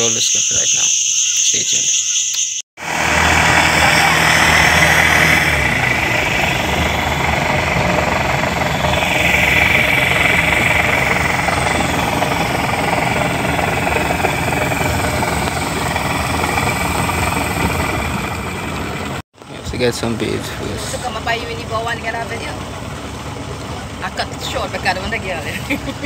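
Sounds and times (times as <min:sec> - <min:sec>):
outboard motor running: 0:02.8 - 0:19.2, 0:20.5 - 0:26.0.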